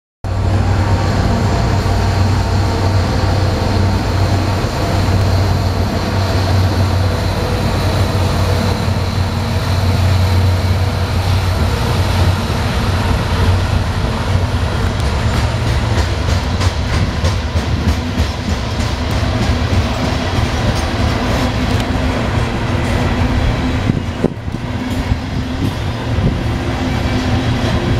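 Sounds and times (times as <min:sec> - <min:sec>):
diesel locomotive engine drone: 0:00.2 - 0:27.9
train wheels clicking over rail joints: 0:01.6 - 0:27.9.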